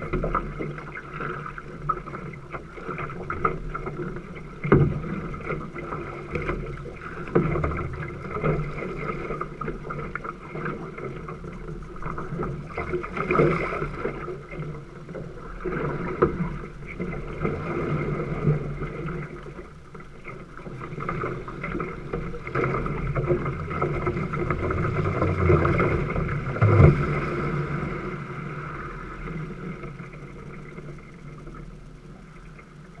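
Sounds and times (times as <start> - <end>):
water splashing against canoe hull: 0.0 - 33.0.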